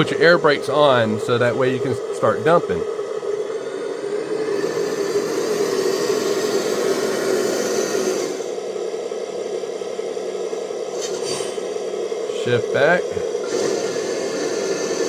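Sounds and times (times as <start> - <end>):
diesel engine running: 0.0 - 15.0
high whirring hiss: 0.0 - 15.0.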